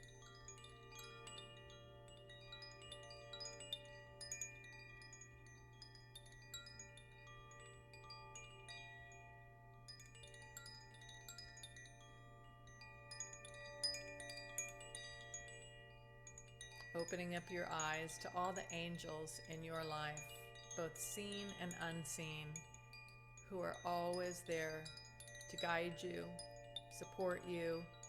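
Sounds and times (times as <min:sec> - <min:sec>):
chimes tinkling: 0:00.0 - 0:28.0.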